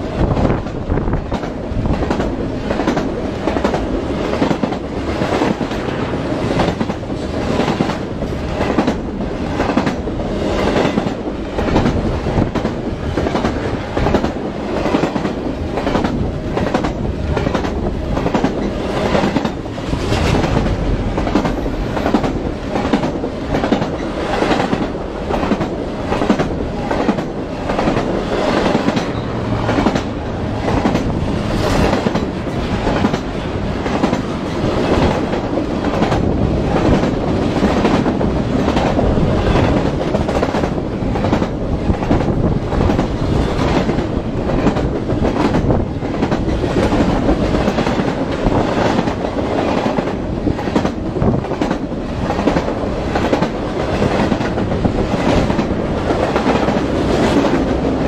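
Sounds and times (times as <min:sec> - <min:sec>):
freight train rumbling: 0:00.0 - 0:58.0.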